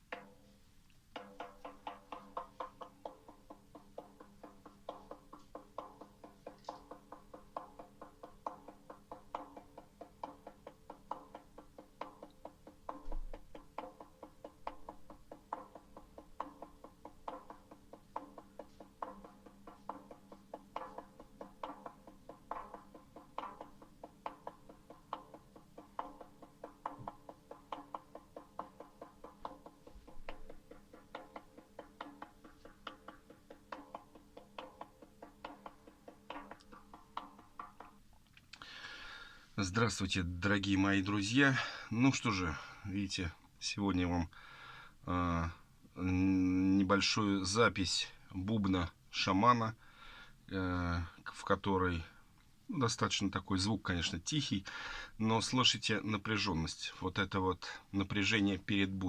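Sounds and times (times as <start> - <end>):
frame drum beating: 0.0 - 43.8, 51.0 - 59.0.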